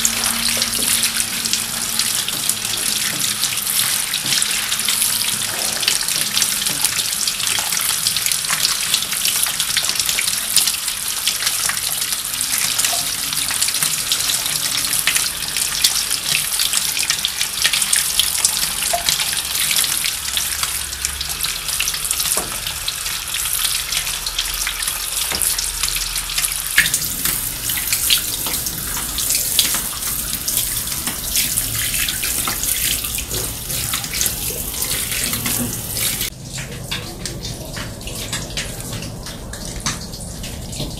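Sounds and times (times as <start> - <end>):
water spraying onto plants: 0.0 - 40.7.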